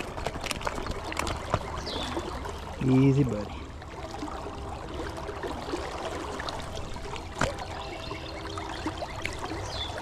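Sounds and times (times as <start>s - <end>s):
river current flowing: 0.0s - 10.0s.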